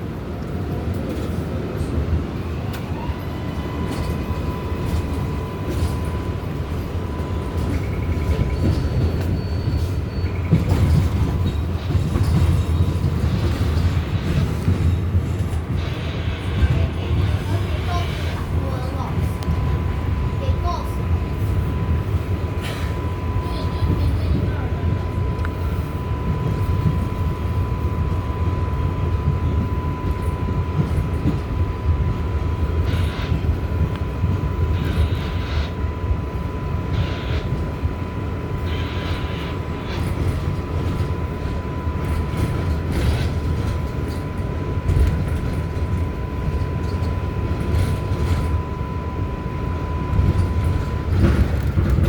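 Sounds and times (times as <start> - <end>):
subway car rumble: 0.0 - 52.0.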